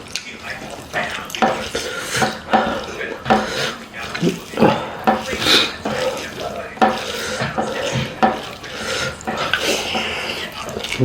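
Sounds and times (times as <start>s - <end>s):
wet chewing and squelching: 0.0s - 11.0s.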